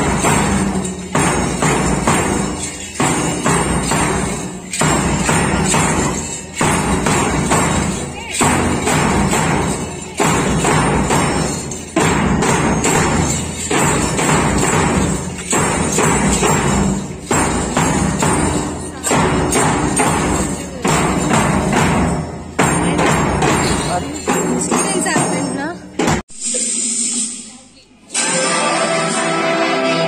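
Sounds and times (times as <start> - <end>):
small hand cymbals: 0.0 - 25.4
jingles ringing: 0.0 - 26.1
triangles ringing: 0.0 - 27.4.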